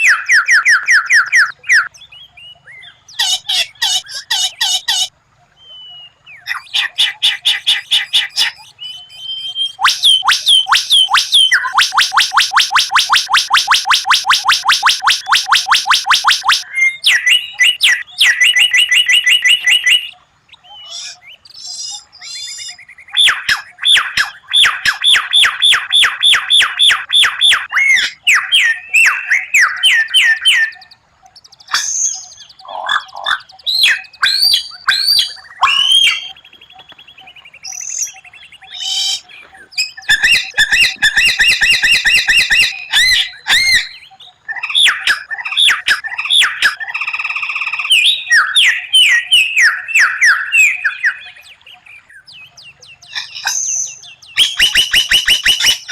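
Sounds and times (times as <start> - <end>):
bird singing varied song: 0.0 - 55.9.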